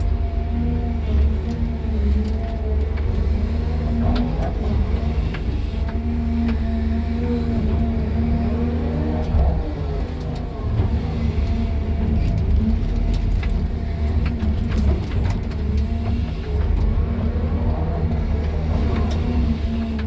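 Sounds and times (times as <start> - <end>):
excavator engine droning: 0.0 - 20.0.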